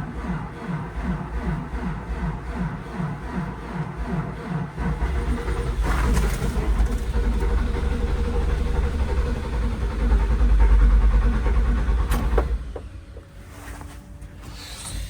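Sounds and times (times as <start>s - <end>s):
diesel engine cranking: 0.0s - 13.3s.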